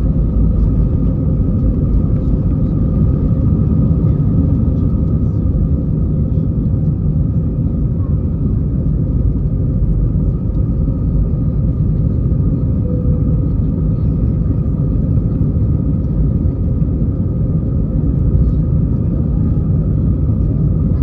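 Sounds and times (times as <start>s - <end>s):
airplane cabin engine rumble: 0.0s - 21.0s
faint steady drone: 0.0s - 21.0s.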